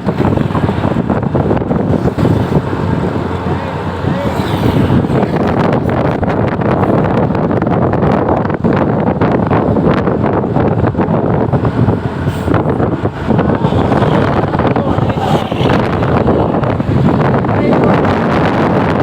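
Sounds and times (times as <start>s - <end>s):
road traffic rumble: 0.0s - 19.0s
wind buffeting microphone: 0.0s - 19.0s.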